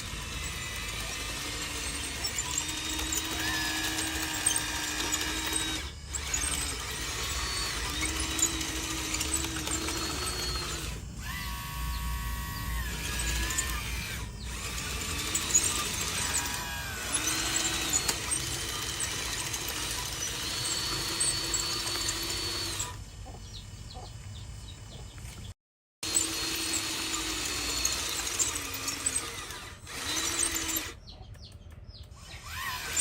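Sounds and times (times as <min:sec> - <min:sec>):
electric motors whining: 0:00.0 - 0:24.1, 0:26.0 - 0:33.0.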